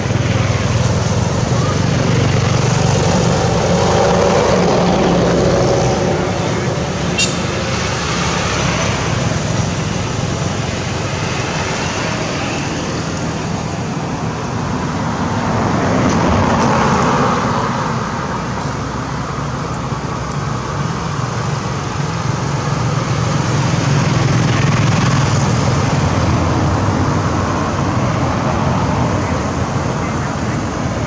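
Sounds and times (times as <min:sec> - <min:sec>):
road traffic hiss: 0:00.0 - 0:31.0.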